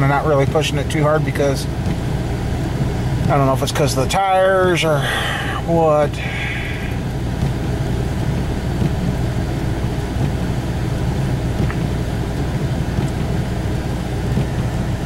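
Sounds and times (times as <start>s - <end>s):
vehicle driving on snow: 0.0s - 15.0s.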